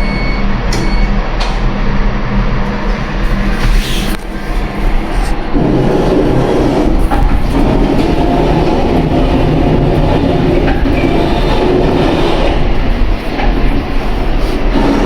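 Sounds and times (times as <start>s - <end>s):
elevator mechanical noise: 0.0s - 15.0s.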